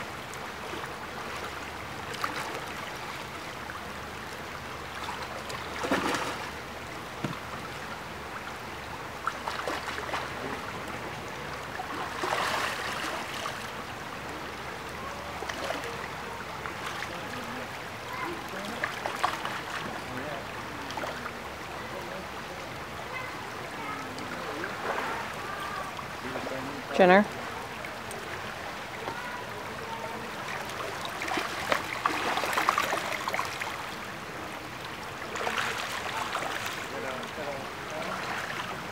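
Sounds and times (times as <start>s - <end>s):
creek running over gravel: 0.0s - 38.9s
water splashing: 0.0s - 38.9s.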